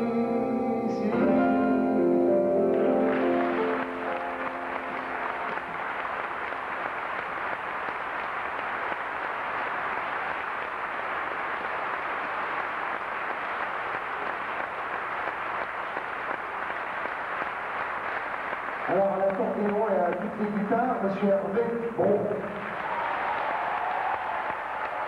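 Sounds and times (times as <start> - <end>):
audience applauding: 2.7 - 21.1, 22.4 - 25.0.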